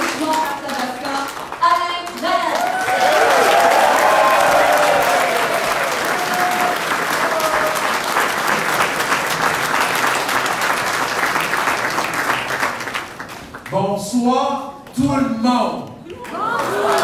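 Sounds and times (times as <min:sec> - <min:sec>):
crowd applauding: 0:00.0 - 0:13.7, 0:16.1 - 0:17.0.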